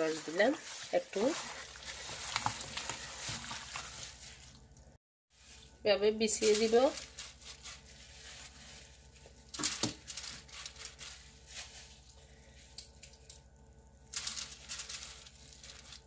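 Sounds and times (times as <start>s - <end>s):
foil crinkling: 0.0s - 13.4s, 14.0s - 16.0s.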